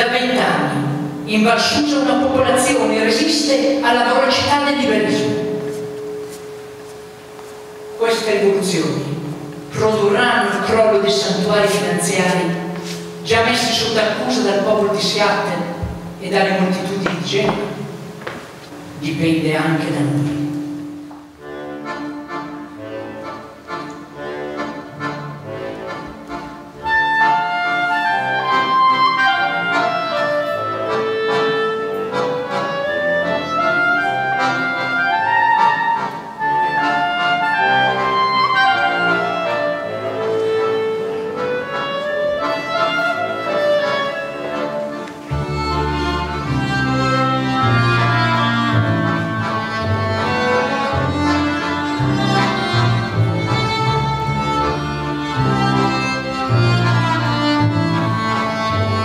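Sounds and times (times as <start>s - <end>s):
acoustic strings and winds music: 0.0s - 59.0s.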